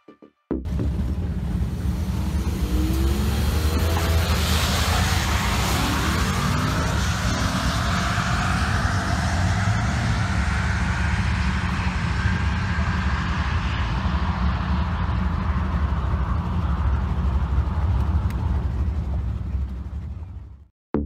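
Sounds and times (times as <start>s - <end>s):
steady low rumble: 0.6s - 21.0s
truck engine accelerating: 0.6s - 21.0s.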